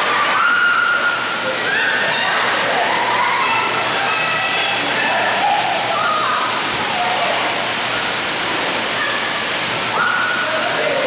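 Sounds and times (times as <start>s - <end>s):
faint voices: 0.0s - 11.0s
water gushing and splashing into pool: 0.0s - 11.0s.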